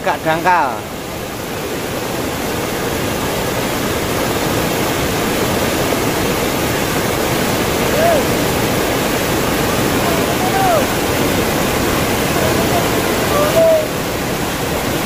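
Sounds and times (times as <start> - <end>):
river rushing over rapids: 0.0 - 15.0.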